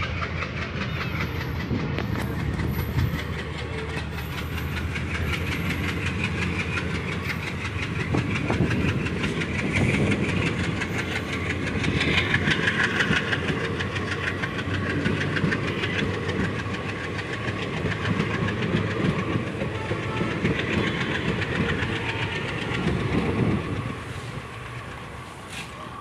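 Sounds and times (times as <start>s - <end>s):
train wheels clacking over rail joints: 0.0s - 25.9s.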